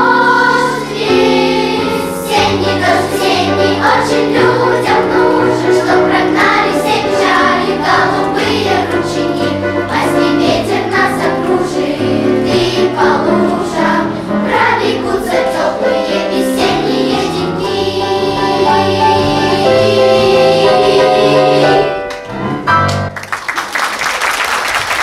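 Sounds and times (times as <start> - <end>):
children's choir singing: 0.0 - 22.1.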